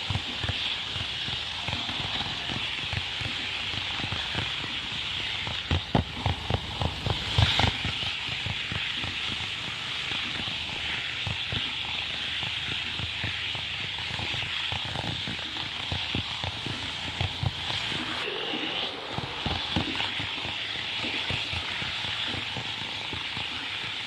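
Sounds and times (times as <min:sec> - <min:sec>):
model train wheels clicking: 0:00.0 - 0:18.2, 0:19.0 - 0:24.0
steady high hiss: 0:00.0 - 0:24.0.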